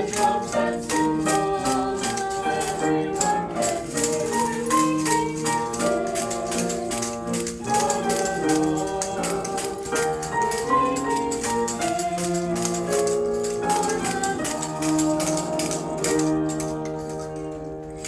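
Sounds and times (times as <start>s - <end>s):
tambourine jingling: 0.0s - 18.0s
voices singing children's song: 0.0s - 18.0s.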